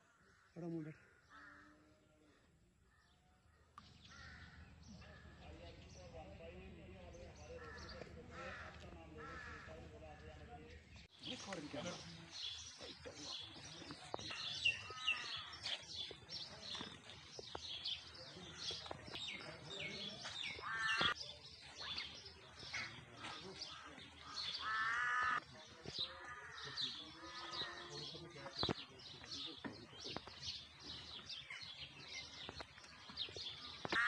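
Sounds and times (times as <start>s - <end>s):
loud bird calls: 2.9s - 10.0s, 11.1s - 34.0s
birds chirping: 2.9s - 34.0s.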